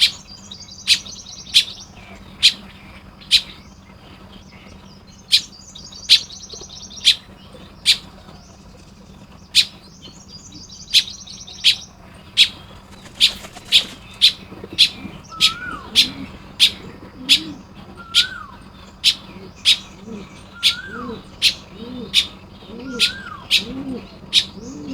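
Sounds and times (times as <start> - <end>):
buzzy chattering birdsong: 0.0 - 24.9
bird chip notes: 4.9 - 24.9.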